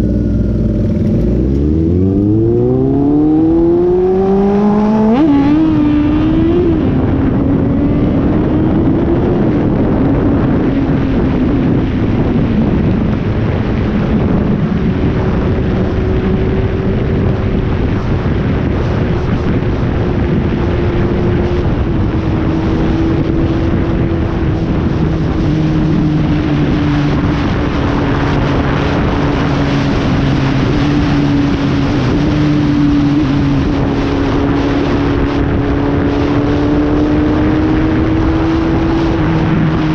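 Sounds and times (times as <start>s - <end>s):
heavy wind rush: 0.0s - 39.9s
motorcycle engine cruising: 0.0s - 39.9s.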